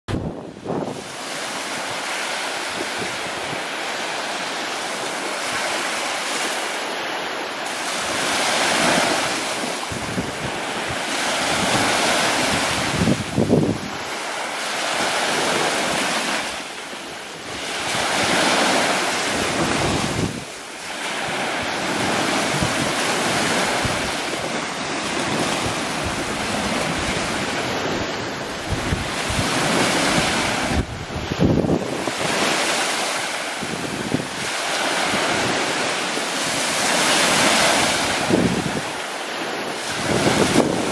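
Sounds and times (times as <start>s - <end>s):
wind buffeting microphone: 0.1s - 5.8s, 7.8s - 40.9s
choppy sea water: 0.1s - 40.9s.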